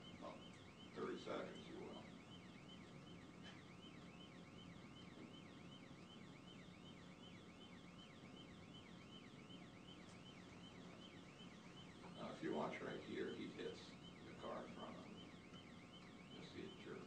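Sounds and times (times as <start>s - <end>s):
police siren yelping: 0.0s - 17.0s.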